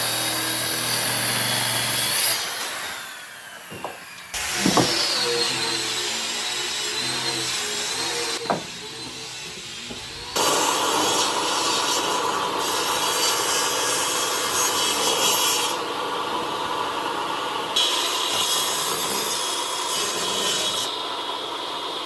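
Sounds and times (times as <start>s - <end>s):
power tool cutting wood: 0.0s - 22.0s.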